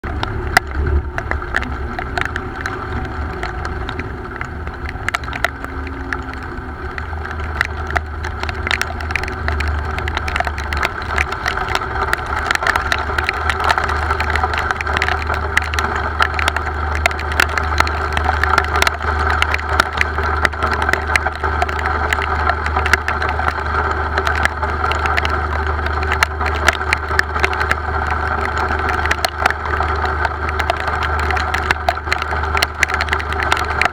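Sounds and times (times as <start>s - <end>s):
raindrop ticks: 0.0s - 33.9s
steady low drone: 0.0s - 33.9s.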